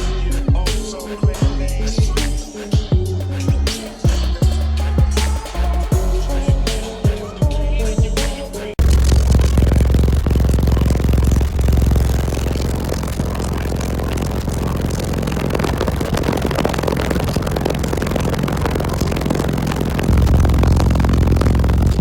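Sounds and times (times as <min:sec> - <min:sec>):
loud deep bass from subwoofers: 0:00.0 - 0:22.0.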